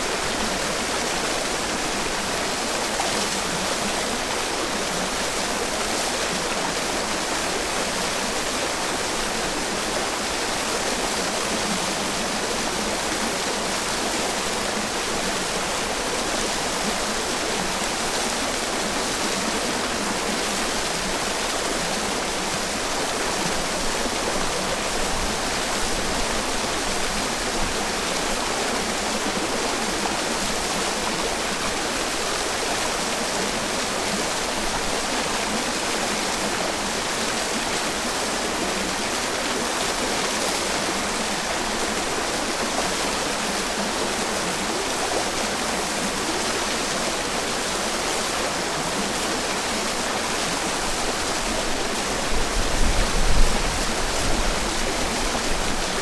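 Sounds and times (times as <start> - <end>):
stream trickling: 0.0 - 56.0
waterfall rushing: 0.0 - 56.0.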